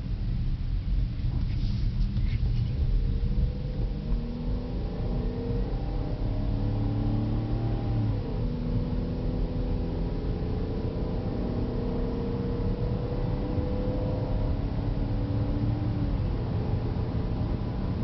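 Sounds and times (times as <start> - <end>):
low road rumble: 0.0 - 18.0
car engine running: 0.3 - 18.0.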